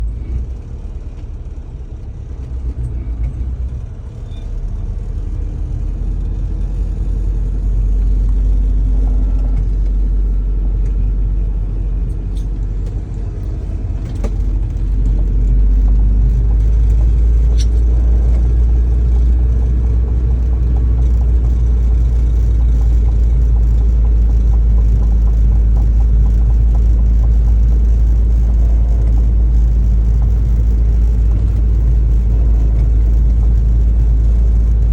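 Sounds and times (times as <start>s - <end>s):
car rumbling in motion: 0.0s - 34.9s.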